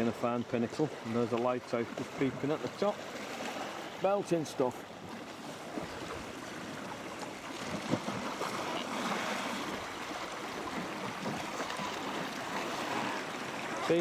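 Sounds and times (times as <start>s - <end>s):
sea water sloshing around kayak: 0.0s - 14.0s.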